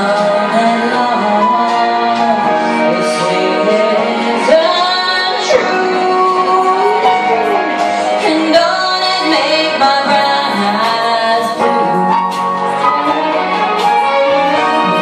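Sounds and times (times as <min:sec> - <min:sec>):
woman singing country-pop ballad: 0:00.0 - 0:12.4
instrumental accompaniment: 0:00.0 - 0:15.0.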